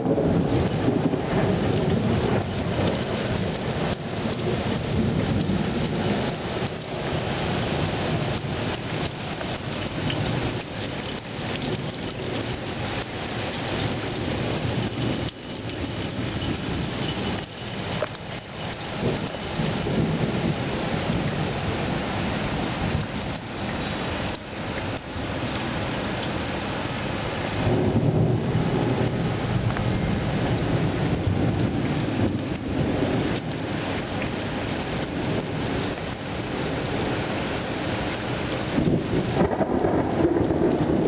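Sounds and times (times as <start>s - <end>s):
heavy rain pouring: 0.0s - 41.0s
low thunder rumbles: 0.0s - 41.0s.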